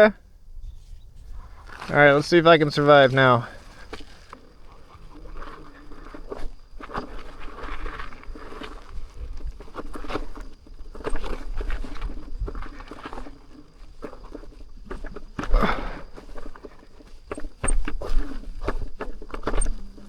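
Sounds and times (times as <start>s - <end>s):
tyre crunching on gravel and rock: 1.0s - 20.0s.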